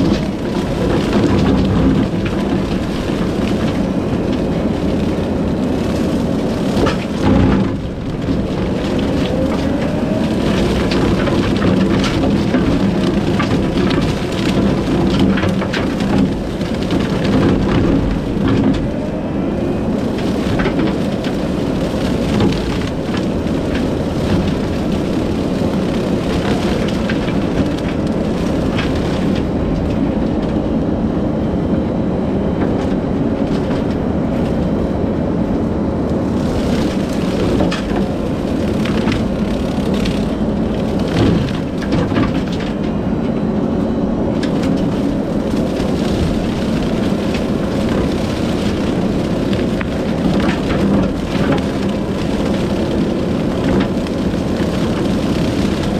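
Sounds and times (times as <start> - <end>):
brush cracking and snapping: 0.0 - 30.6, 36.1 - 42.9, 44.4 - 55.9
loader engine drone: 0.0 - 55.9.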